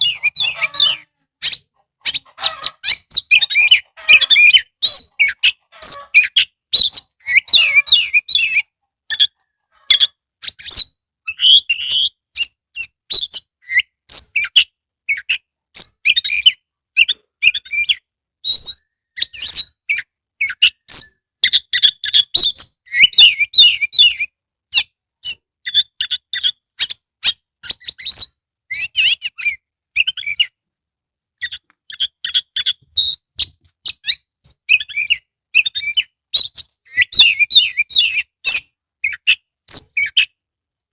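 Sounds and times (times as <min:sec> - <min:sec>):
bird singing whistles and chatter: 0:00.0 - 0:09.4, 0:10.0 - 0:24.3, 0:25.2 - 0:30.6, 0:31.4 - 0:40.4.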